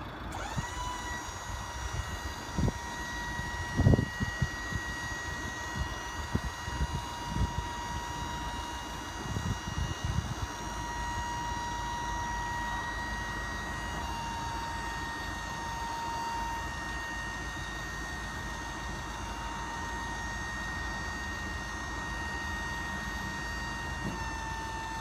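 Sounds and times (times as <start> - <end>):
hydraulic pump whining: 0.0 - 25.0.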